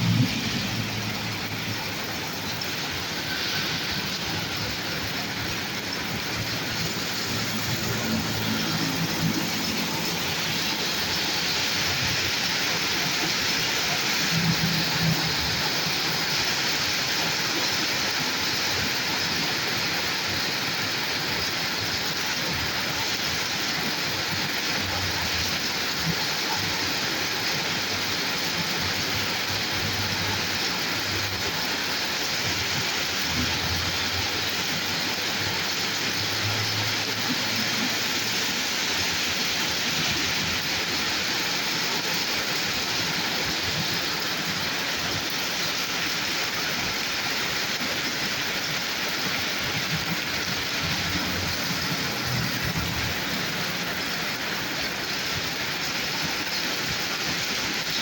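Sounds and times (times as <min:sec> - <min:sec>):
rain falling on a road: 0:00.0 - 0:58.0.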